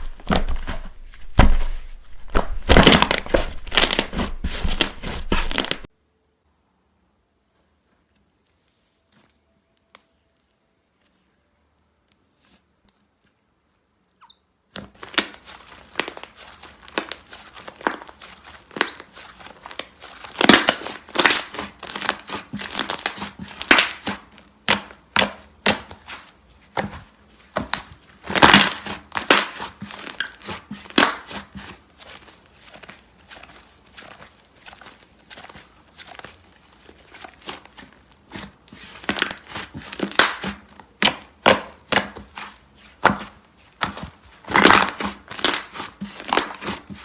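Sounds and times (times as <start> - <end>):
slime squished by hand: 0.0 - 5.9, 14.7 - 47.0.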